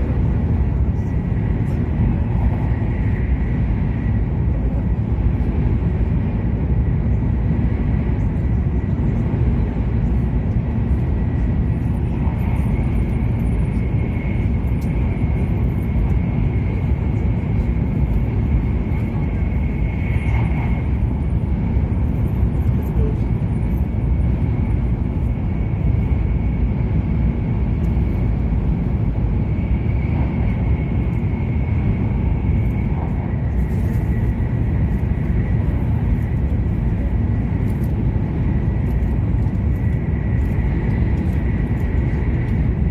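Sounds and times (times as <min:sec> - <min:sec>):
train running at speed: 0:00.0 - 0:42.9.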